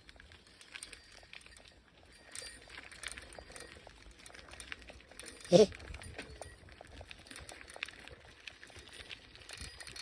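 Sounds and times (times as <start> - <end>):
bicycle clicking and rattling: 0.0 - 10.0
low rumble of bicycle tyres: 0.0 - 10.0.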